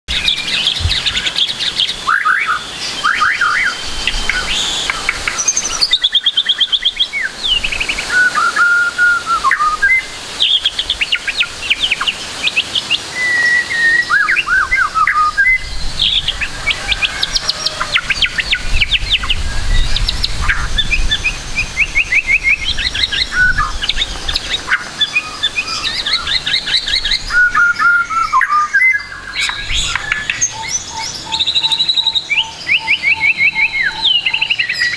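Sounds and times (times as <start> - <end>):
bird singing varied song: 0.1 - 34.9.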